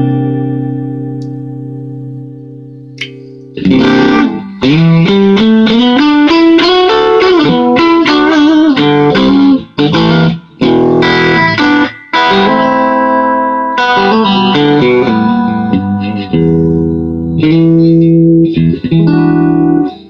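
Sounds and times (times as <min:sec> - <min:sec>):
amplified electric guitar: 0:00.0 - 0:20.0.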